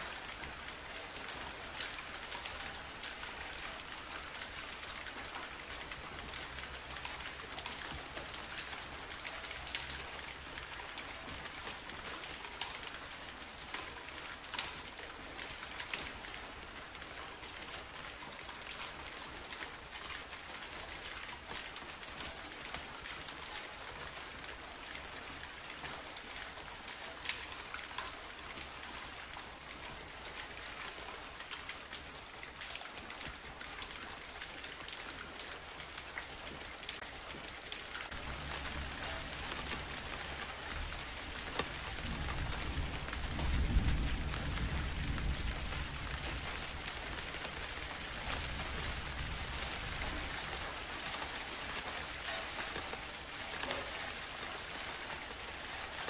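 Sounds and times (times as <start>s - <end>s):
raindrops ticking close by: 0.0s - 56.0s
steady rain hiss: 0.0s - 56.0s.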